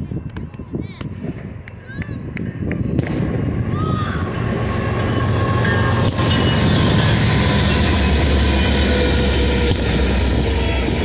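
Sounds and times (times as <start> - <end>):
train wheels rumbling and rattling: 1.1 - 11.0.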